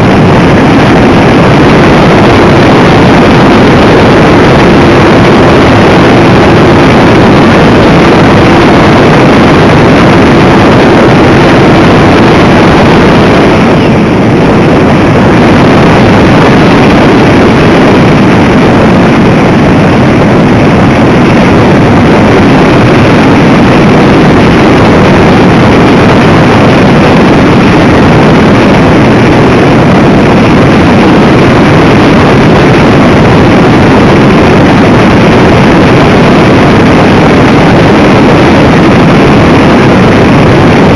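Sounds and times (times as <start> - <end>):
rushing air noise: 0.0 - 40.9
steady hum: 0.0 - 40.9.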